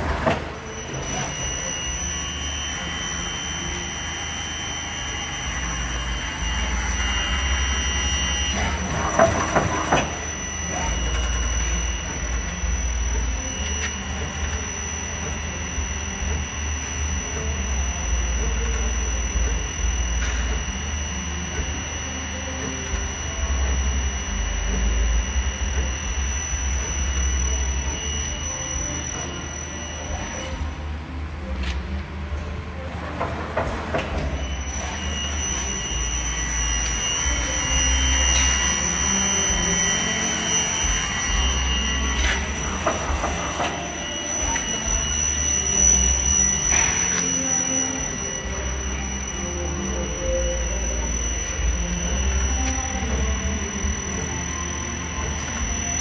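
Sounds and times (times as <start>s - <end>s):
lathe high-pitched whine: 0.0s - 56.0s.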